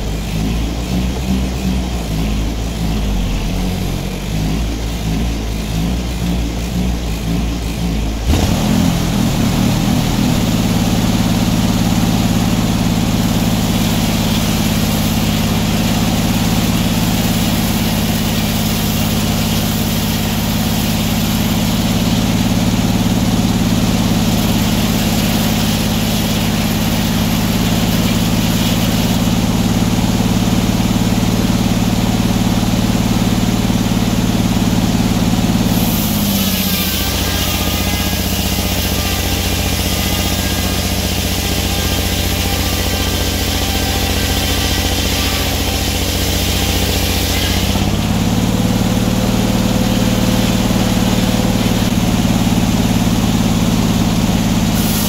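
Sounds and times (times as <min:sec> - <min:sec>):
circular saw cutting timber: 0:00.0 - 0:55.0.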